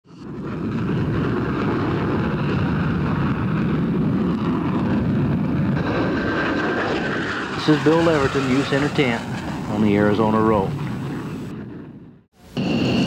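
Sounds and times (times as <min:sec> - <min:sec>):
jet engines rumbling: 0:00.1 - 0:13.0.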